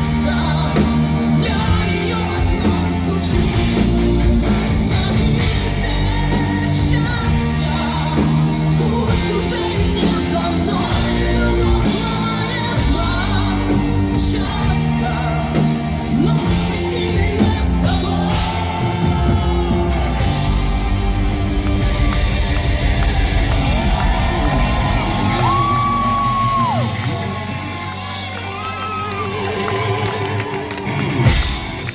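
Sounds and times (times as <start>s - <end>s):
live rock band playing: 0.0s - 31.9s
people singing and shouting: 0.0s - 31.9s.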